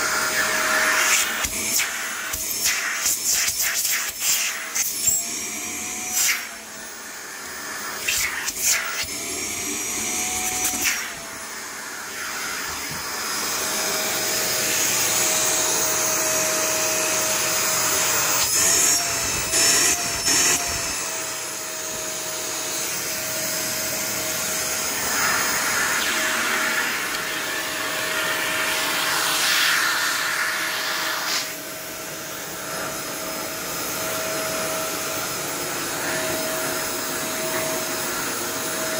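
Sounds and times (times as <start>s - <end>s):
vacuum cleaner motor whine: 0.0s - 38.9s
vacuum nozzle on carpet: 0.0s - 38.9s.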